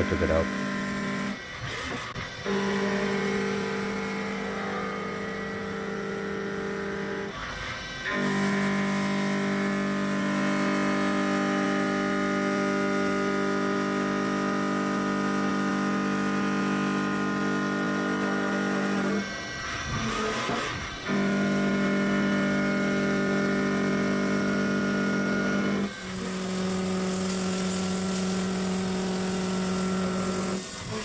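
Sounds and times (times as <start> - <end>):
end mill cutting metal: 0.0 - 31.0.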